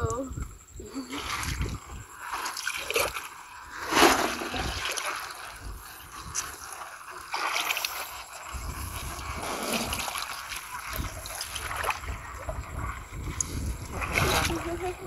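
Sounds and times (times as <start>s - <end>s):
feet splashing in muddy water: 1.1s - 12.8s, 13.5s - 15.0s.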